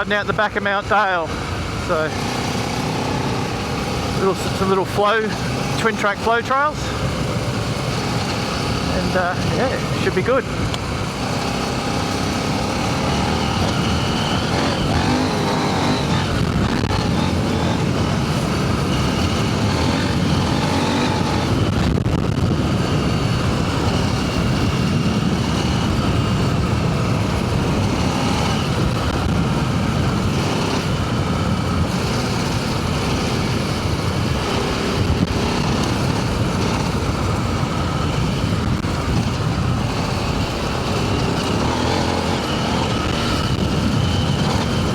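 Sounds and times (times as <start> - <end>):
motorcycle engine revving: 0.0 - 44.9
wind noise: 1.3 - 44.9.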